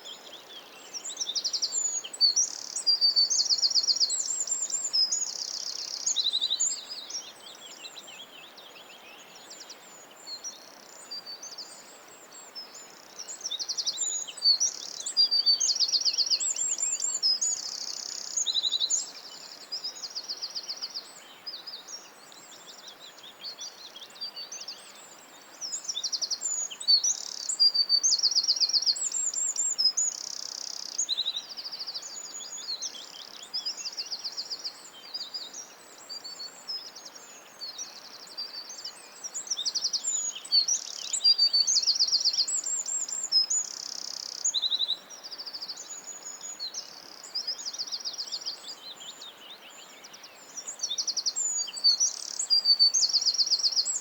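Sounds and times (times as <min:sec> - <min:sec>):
faint background hiss: 0:00.0 - 0:54.0
songbirds singing: 0:00.0 - 0:54.0.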